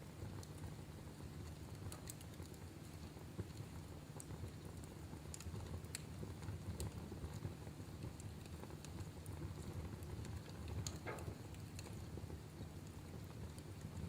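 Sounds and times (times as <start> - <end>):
wood fire burning: 0.0 - 14.0.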